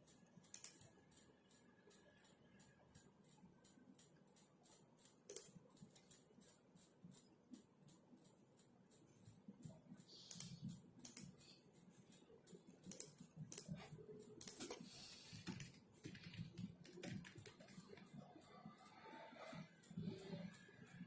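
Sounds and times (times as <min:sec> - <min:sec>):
typing on keyboard: 0:00.0 - 0:21.0.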